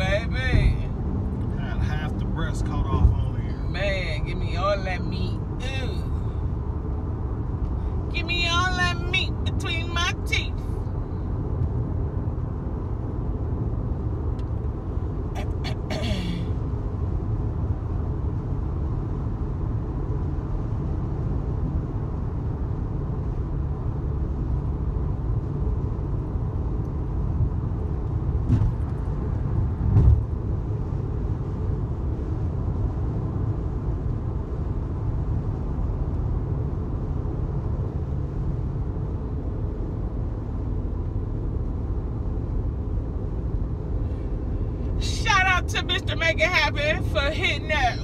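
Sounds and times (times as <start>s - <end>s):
car road and engine rumble: 0.0s - 48.0s.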